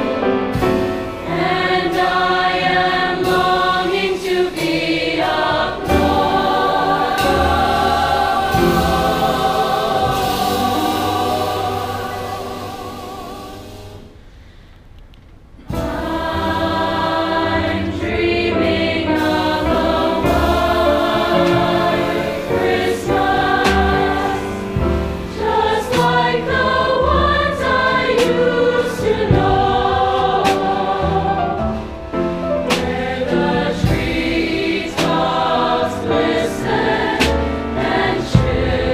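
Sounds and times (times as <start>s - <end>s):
choir singing: 0.0s - 14.2s, 15.7s - 38.9s.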